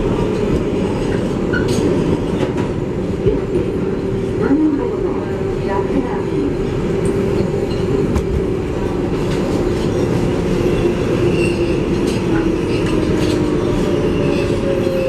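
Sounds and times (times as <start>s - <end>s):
rumble of wheels on rail: 0.0s - 15.0s.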